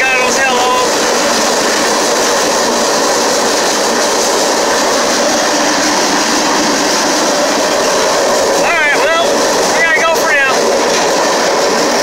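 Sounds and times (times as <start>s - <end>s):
steel wheels running on rails: 0.0s - 12.0s.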